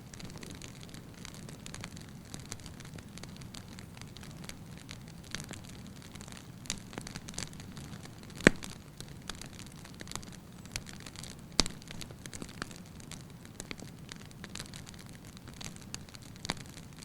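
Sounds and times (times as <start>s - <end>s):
firewood crackling and popping: 0.0s - 17.0s
wood fire hissing: 0.0s - 17.0s.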